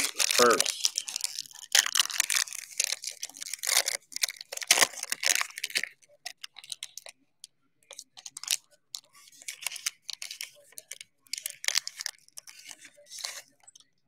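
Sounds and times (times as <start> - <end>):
foil wrapper crinkling and tearing: 0.0 - 7.1, 7.9 - 13.9.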